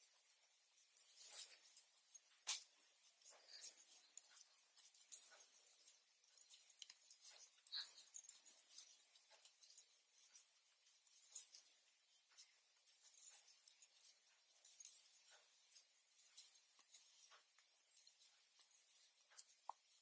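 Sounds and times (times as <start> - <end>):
knitting needles clicking: 0.0 - 20.0.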